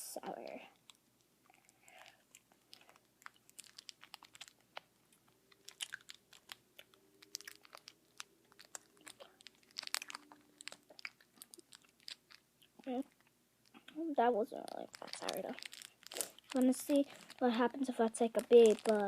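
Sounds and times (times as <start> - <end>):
candy being chewed: 0.6 - 14.0, 14.6 - 19.0
candy pouch crackling: 0.6 - 19.0.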